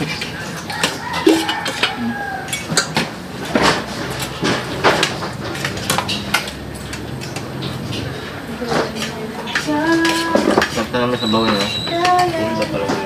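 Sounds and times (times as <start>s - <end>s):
cutlery clinking on plates: 0.0s - 13.0s.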